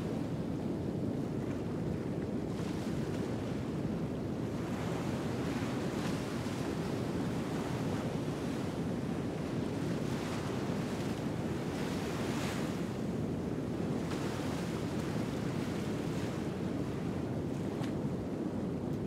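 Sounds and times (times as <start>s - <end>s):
ocean waves washing ashore: 0.0s - 19.0s.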